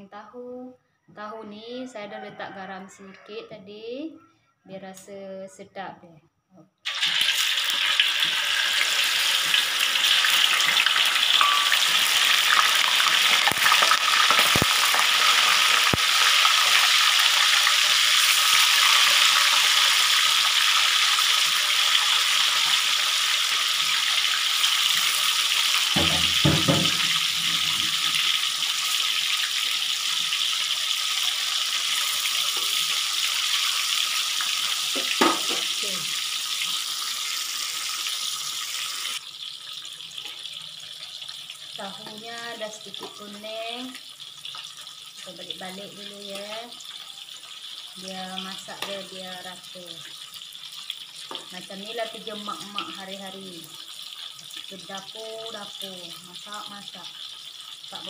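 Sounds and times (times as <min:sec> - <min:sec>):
tofu sizzling in hot oil: 0:06.8 - 0:58.0.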